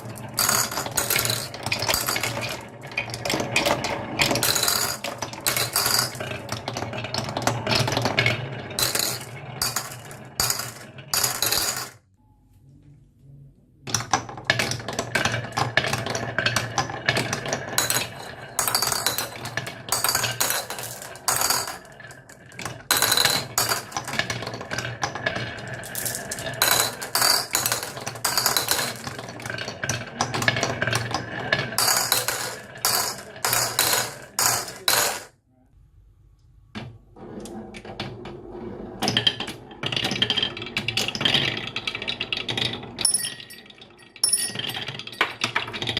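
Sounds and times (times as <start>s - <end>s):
marbles clicking and clinking: 0.0s - 12.0s, 13.9s - 35.3s, 39.1s - 45.9s
marbles rolling on a track: 0.0s - 12.0s, 13.9s - 35.3s, 37.8s - 45.9s.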